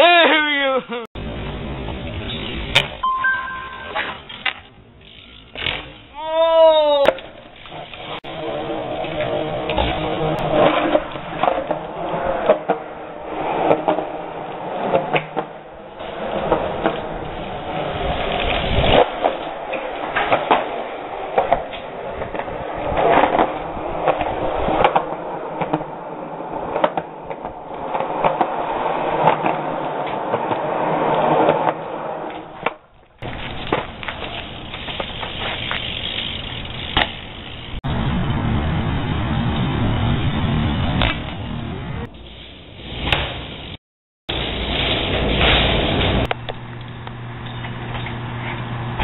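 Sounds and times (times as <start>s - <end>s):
bike rolling on concrete: 0.9s - 49.0s.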